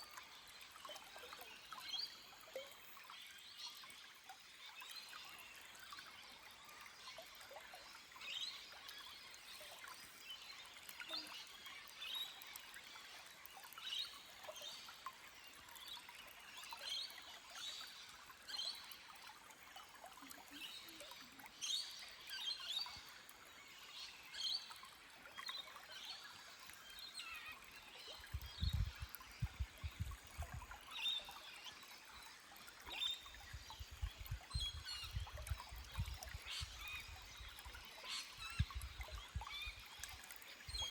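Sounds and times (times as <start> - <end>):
stream trickling over rocks: 0.0 - 40.9.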